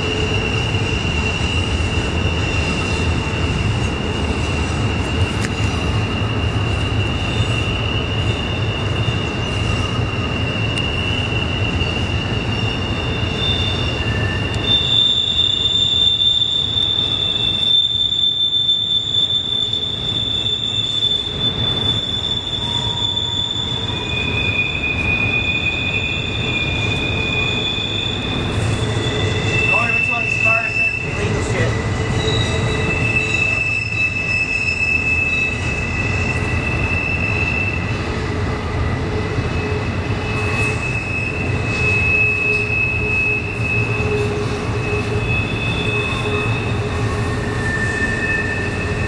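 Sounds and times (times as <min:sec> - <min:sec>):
freight train rumble: 0:00.0 - 0:49.0
high-pitched wheel squeal: 0:00.0 - 0:49.0.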